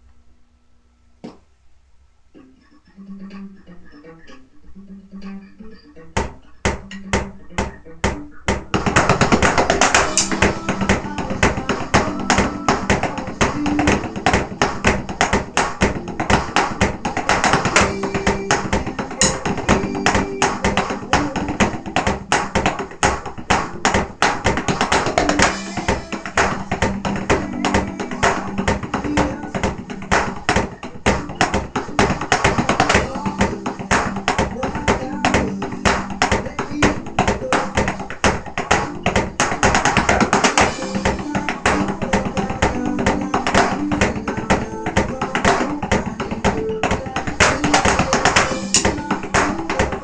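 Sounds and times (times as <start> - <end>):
backing band music: 2.4 - 50.0
electronic drum stick hits: 6.2 - 46.7, 47.4 - 50.0.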